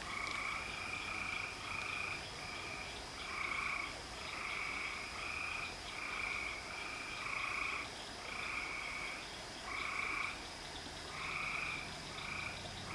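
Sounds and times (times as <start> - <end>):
frogs croaking: 0.0 - 12.9.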